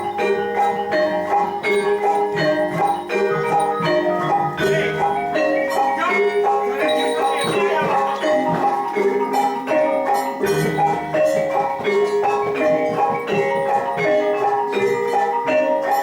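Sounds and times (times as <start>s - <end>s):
metallophones playing melody: 0.0s - 16.0s
percussive strikes: 0.0s - 16.0s.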